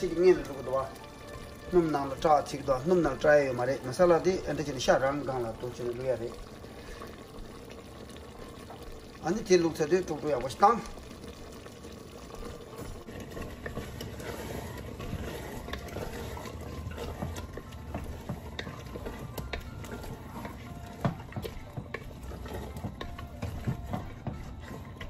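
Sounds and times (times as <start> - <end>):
curry simmering: 0.0 - 25.0
wooden spatula scraping a metal pot: 0.0 - 25.0.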